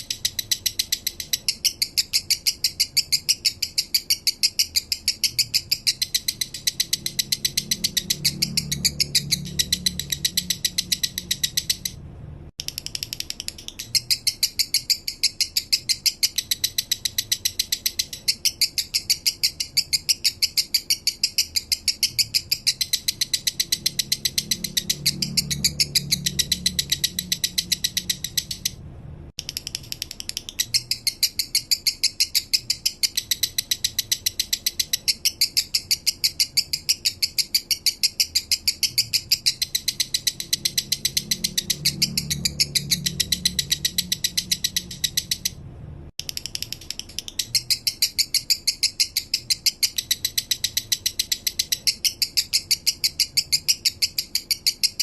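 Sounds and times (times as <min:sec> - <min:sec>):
lovebird clicking chirps: 0:00.0 - 0:12.0, 0:12.6 - 0:28.8, 0:29.4 - 0:45.6, 0:46.2 - 0:55.0.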